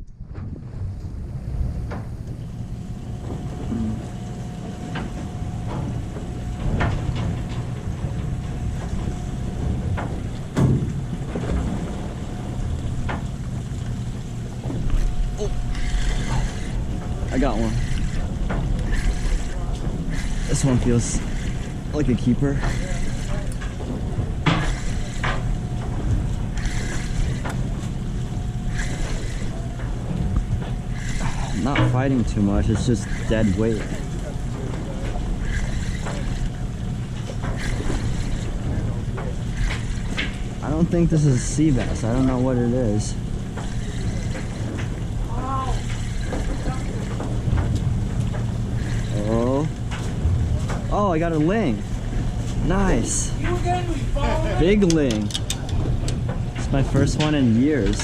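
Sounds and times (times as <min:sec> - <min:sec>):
boat engine rumble: 0:00.0 - 0:58.0
wind buffeting microphone: 0:00.0 - 0:58.0.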